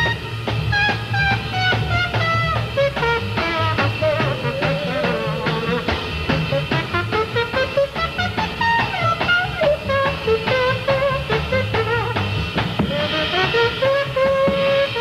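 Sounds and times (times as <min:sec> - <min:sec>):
bass and drums: 0:00.0 - 0:15.0
fast melodic jazz solo: 0:00.0 - 0:15.0.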